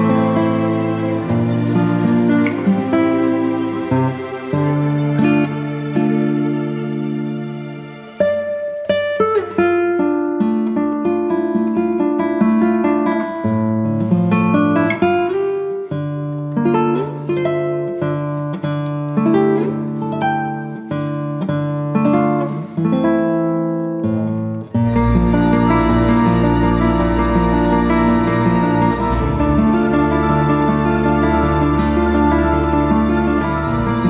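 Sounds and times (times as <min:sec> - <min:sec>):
plucked and strummed string instrument: 0:00.0 - 0:34.0.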